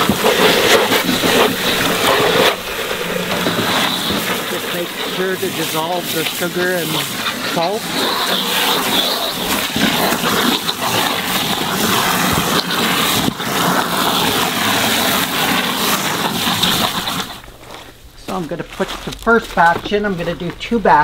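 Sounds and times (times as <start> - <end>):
hose spraying water into cooler: 0.0 - 18.4
brine splashing and churning: 0.0 - 21.0.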